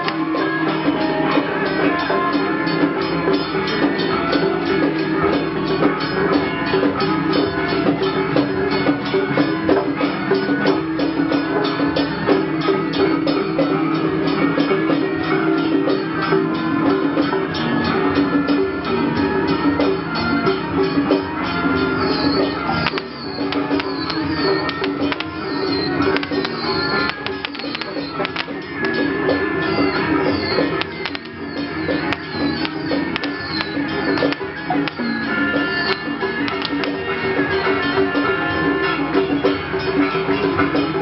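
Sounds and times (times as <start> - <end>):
music with fast percussion beat: 0.0 - 41.0.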